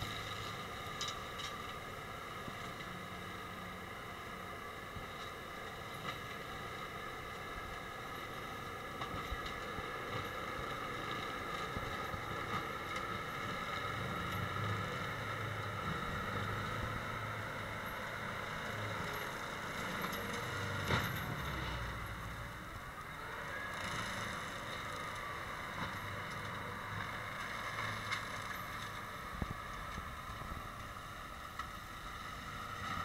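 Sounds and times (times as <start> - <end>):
forestry mulcher whining: 0.0 - 33.0
tractor engine running under load: 0.0 - 33.0.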